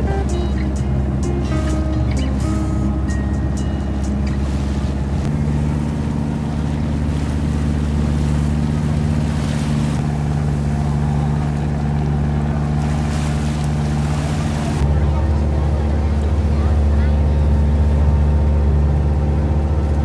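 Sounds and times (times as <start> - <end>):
boat engine running: 0.0 - 20.0
water rushing along hull: 0.0 - 20.0.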